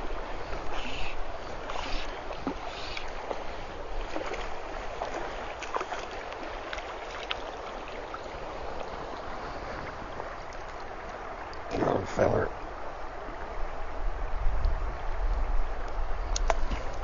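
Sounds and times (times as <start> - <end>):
river water running: 0.0 - 17.0.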